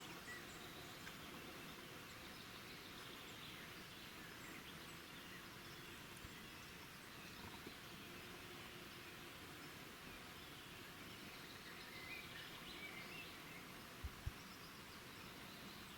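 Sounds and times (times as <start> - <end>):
soft steady hiss: 0.0 - 15.9.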